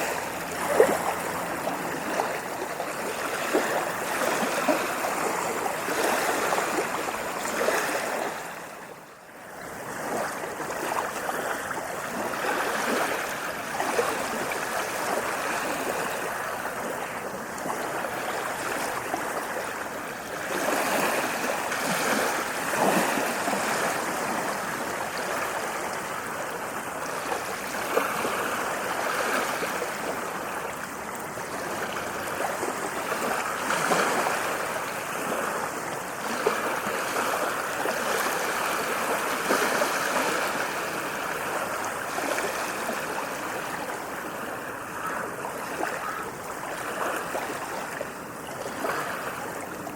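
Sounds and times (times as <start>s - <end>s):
ocean waves washing on beach: 0.0s - 49.9s.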